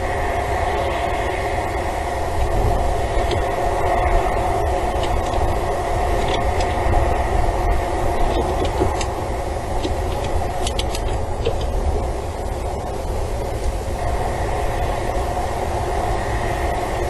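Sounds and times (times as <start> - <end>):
steady rumbling hum: 0.0 - 17.0.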